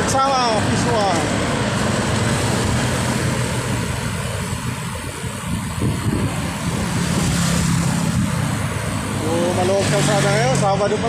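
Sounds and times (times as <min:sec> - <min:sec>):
bicycle road rumble: 0:00.0 - 0:11.0
low traffic engine hum: 0:00.0 - 0:11.0
wind rushing over microphone: 0:00.0 - 0:11.0.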